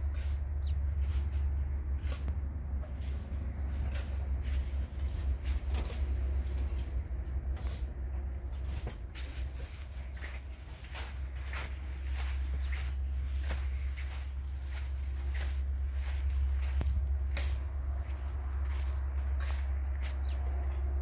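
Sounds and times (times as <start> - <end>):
footsteps crunching on sand and brush: 0.0 - 21.0
steady low rumble: 0.0 - 21.0.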